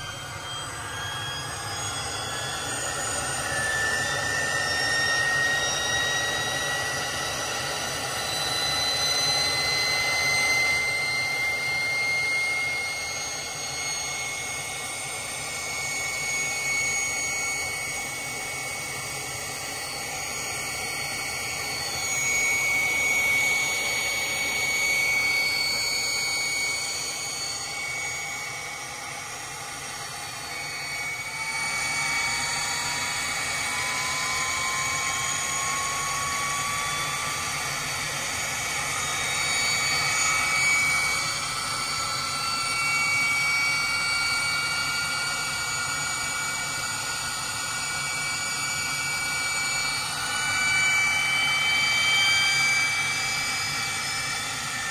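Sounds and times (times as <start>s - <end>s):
engine spooling up: 0.0s - 54.9s
jet engine whine: 0.0s - 54.9s.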